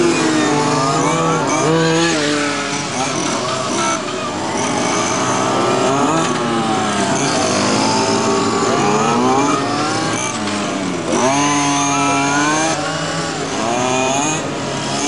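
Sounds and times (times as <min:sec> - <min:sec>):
model car engines revving: 0:00.0 - 0:15.0.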